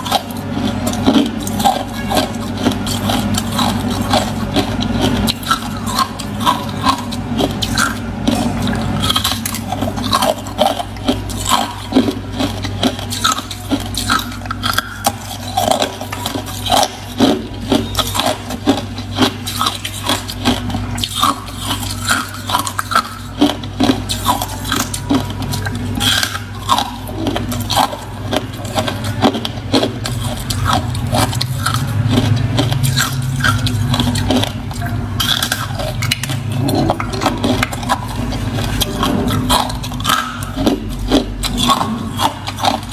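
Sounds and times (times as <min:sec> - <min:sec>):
chewing crunchy ice: 0:00.0 - 0:42.9
low steady hum: 0:00.0 - 0:42.9.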